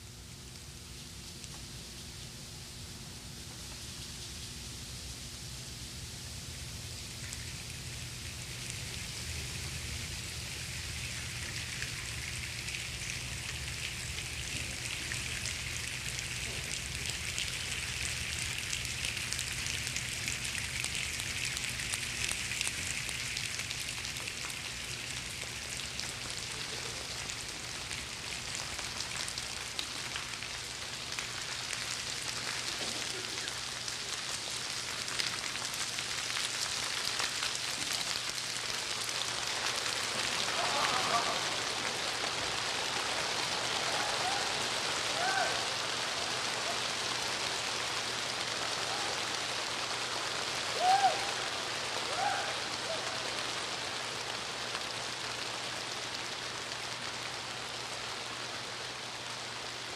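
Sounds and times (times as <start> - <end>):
audience hands making rain sounds: 7.0 - 59.9.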